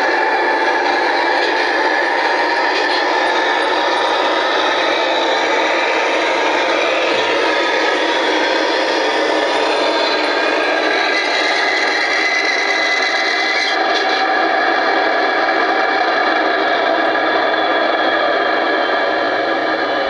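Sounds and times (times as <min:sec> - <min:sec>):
model electric locomotive running sound: 0:00.0 - 0:20.0.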